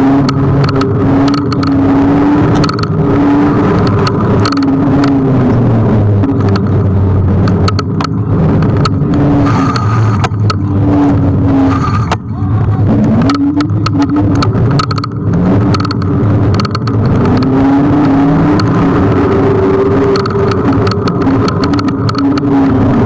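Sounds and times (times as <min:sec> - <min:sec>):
passing traffic engines: 0:00.0 - 0:23.0
rattling clicks over bumps: 0:00.0 - 0:23.0
scooter wheels and motor rumble: 0:00.0 - 0:23.0.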